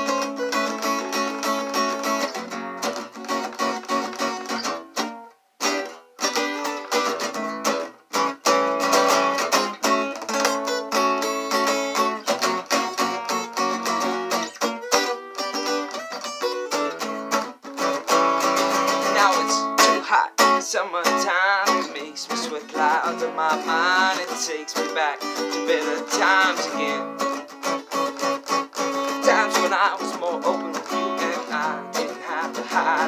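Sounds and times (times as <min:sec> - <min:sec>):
guitar strumming: 0:00.0 - 0:33.0.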